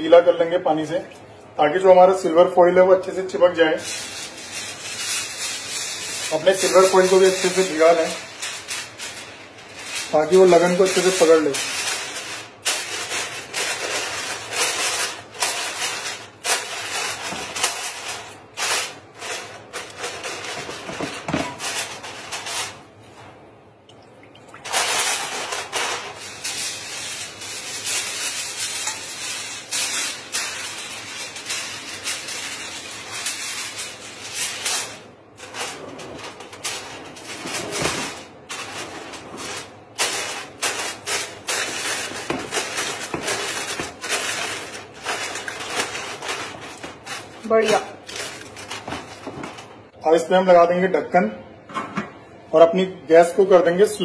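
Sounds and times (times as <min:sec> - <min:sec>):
aluminium foil crinkling: 0:03.4 - 0:23.0, 0:24.6 - 0:50.0.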